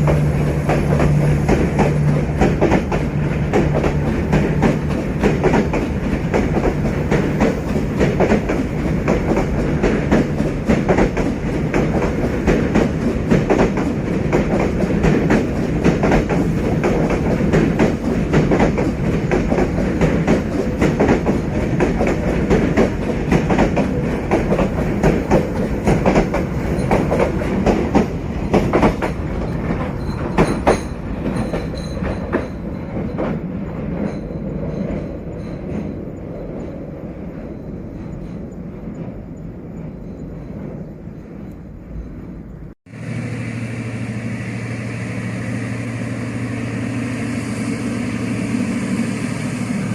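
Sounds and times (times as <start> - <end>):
train wheels clicking over rail joints: 0.0 - 42.7
low train rumble: 0.0 - 49.9.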